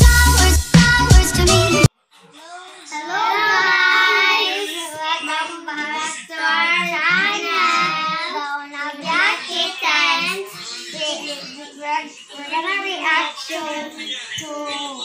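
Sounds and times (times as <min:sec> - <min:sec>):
children singing: 0:00.0 - 0:01.9, 0:02.9 - 0:15.0.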